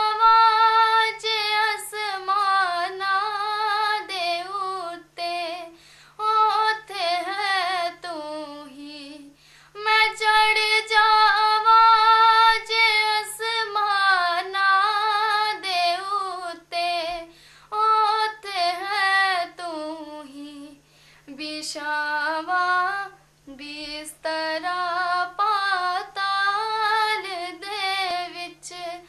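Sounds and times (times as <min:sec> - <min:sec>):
woman singing unaccompanied: 0:00.0 - 0:29.0.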